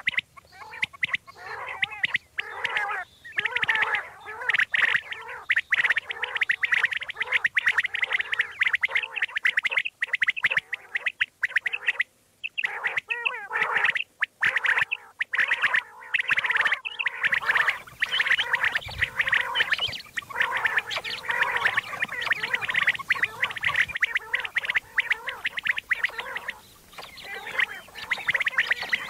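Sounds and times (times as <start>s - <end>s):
quail calls: 0.0s - 29.0s.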